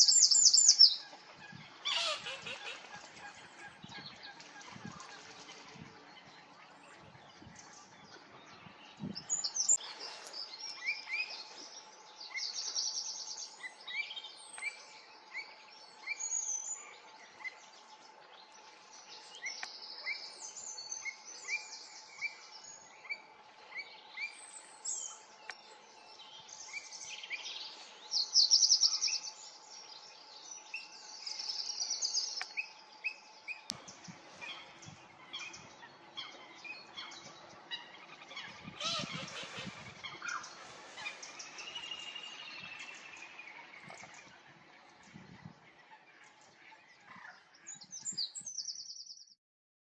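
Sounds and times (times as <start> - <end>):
songbirds singing and calling: 0.0 - 49.4.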